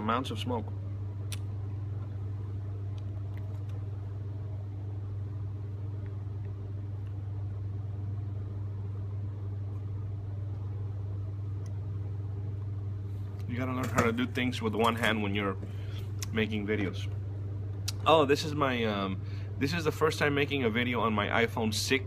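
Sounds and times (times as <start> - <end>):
hvac equipment humming: 0.0 - 22.0.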